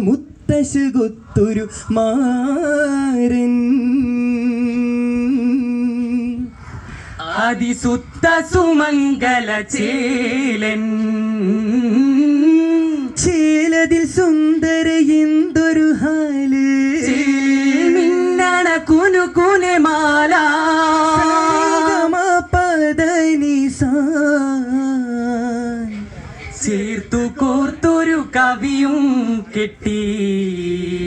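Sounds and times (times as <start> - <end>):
men singing slow melody: 0.0 - 31.0.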